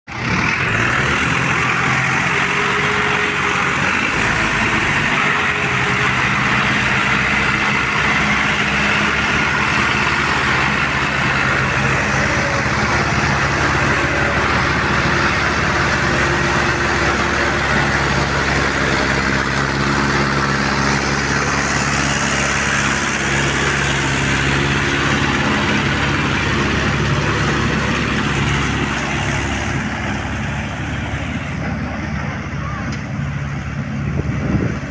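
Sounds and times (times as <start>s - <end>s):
heavy tractor engines running: 0.1s - 34.9s.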